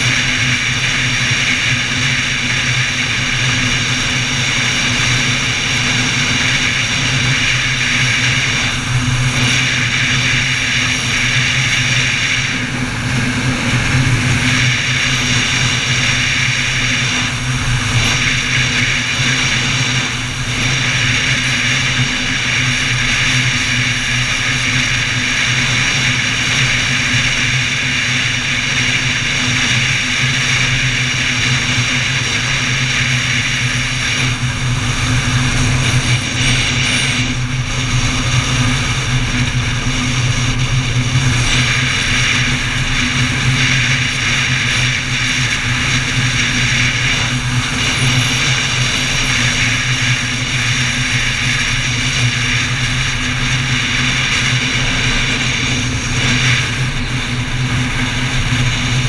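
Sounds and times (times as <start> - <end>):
motorcycle engine cruising: 0.1 - 59.0.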